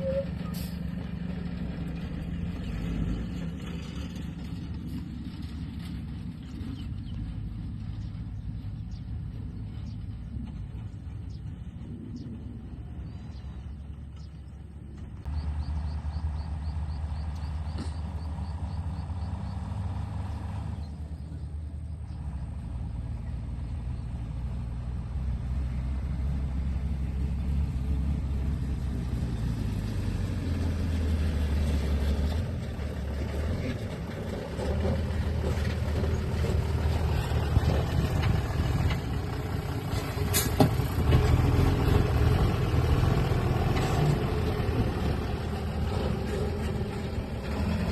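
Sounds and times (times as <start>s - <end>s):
heavy truck engine rumbling: 0.0s - 47.9s.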